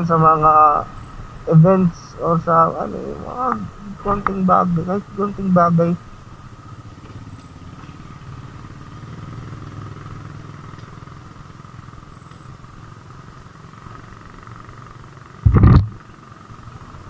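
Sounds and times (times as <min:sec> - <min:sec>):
small motorcycle engine rumbling: 0:00.0 - 0:17.0.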